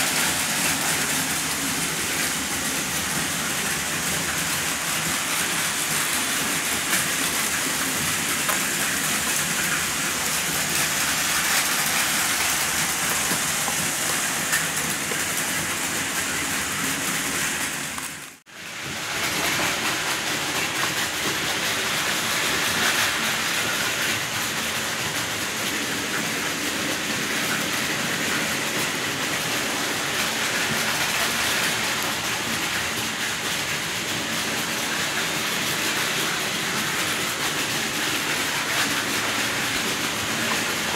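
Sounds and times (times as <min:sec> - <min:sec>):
model trains whirring on rails: 0:00.0 - 0:40.9.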